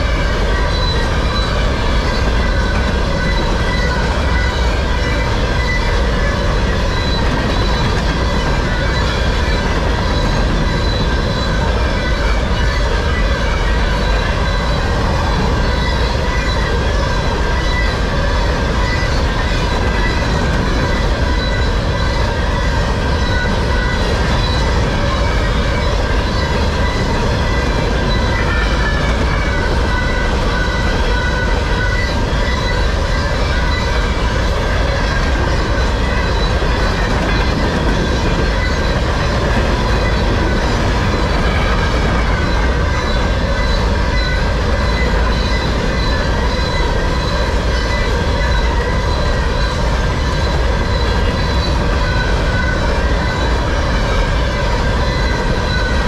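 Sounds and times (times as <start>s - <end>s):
high wheel ringing and squealing: 0.0s - 56.0s
train wheels rumbling on rail: 0.0s - 56.0s.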